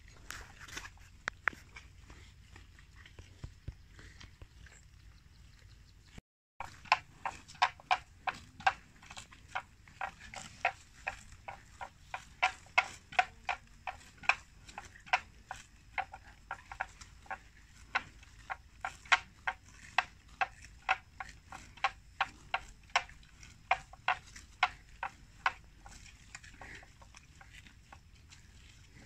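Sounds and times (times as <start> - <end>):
water buffalo biting plants: 0.0 - 5.0, 6.6 - 29.0.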